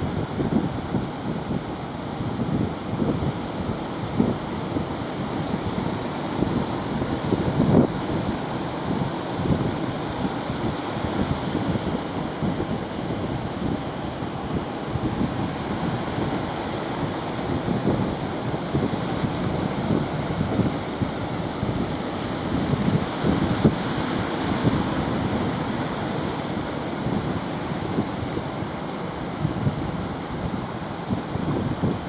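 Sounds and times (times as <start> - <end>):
surf breaking on beach: 0.0 - 32.0
wind buffeting microphone: 0.0 - 32.0.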